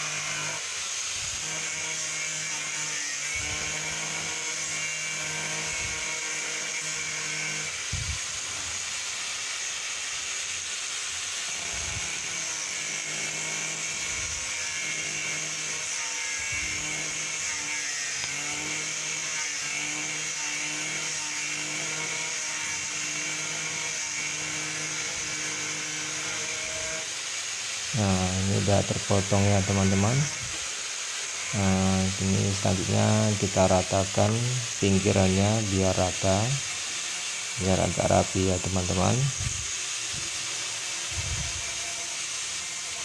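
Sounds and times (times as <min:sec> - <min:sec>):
angle grinder cutting plastic: 0:00.0 - 0:43.0.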